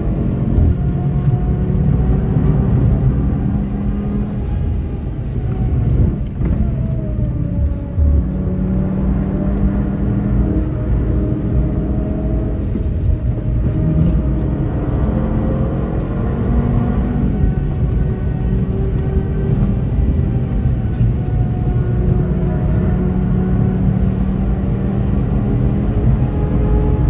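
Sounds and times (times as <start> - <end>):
car engine under full throttle: 0.0 - 27.0.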